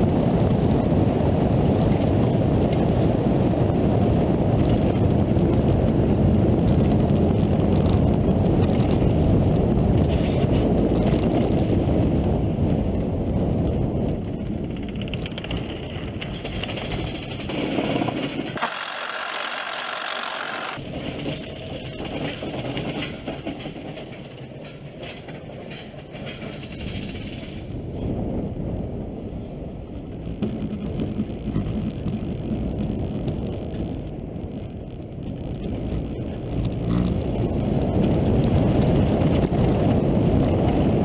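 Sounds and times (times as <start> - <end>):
roller coaster rumbling on track: 0.0 - 18.6, 20.8 - 41.0.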